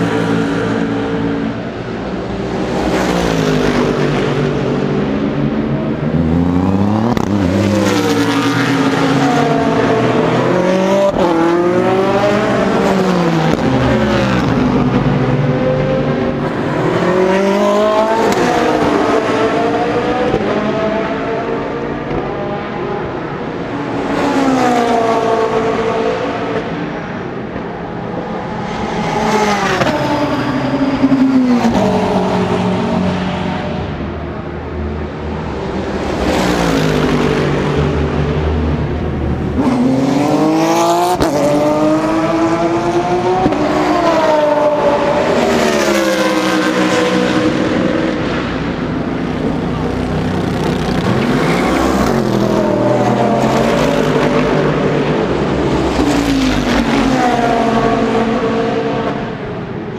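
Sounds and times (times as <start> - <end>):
race cars accelerating: 0.0 - 59.9.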